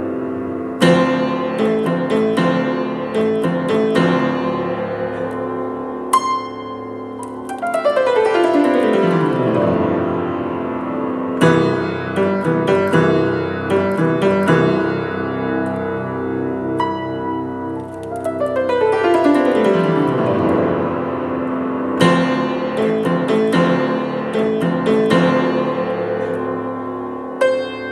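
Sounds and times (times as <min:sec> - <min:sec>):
piano music: 0:00.0 - 0:27.9.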